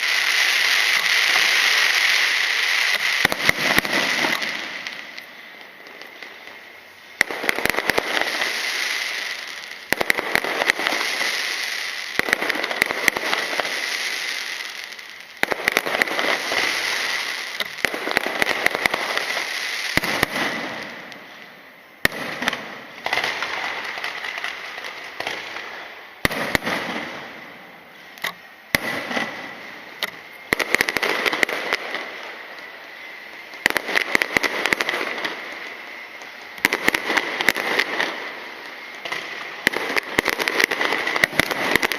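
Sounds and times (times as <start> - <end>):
aerial fireworks crackling: 0.0 - 41.9.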